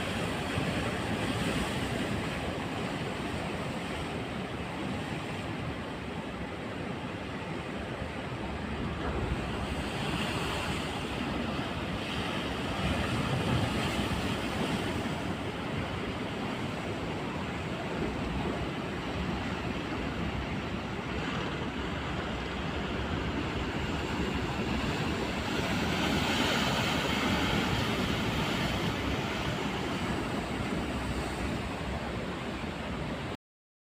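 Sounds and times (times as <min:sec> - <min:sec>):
rough sea: 0:00.0 - 0:33.4.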